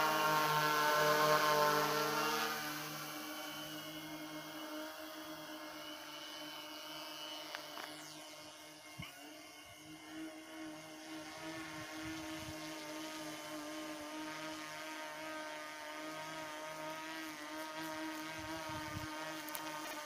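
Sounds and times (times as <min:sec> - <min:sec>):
multirotor drone hovering: 0:00.0 - 0:20.0.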